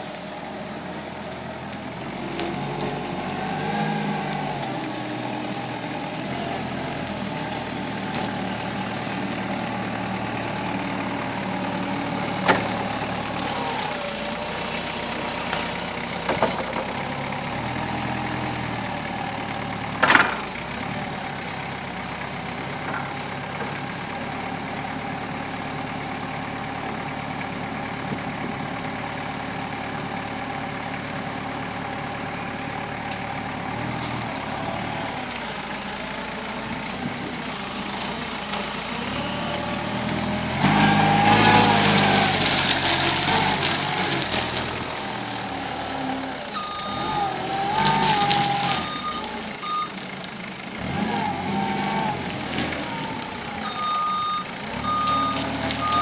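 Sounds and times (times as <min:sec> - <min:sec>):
forklift diesel engine running: 0:00.0 - 0:56.0.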